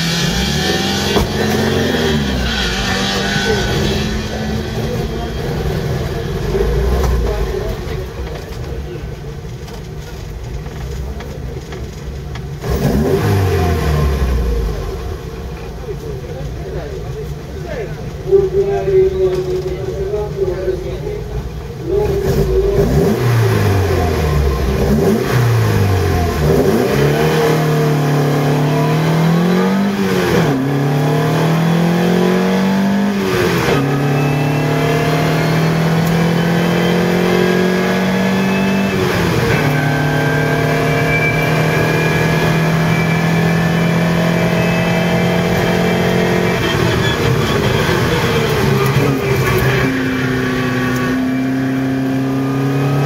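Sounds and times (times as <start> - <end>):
race car engine at full throttle: 0.0 - 53.0.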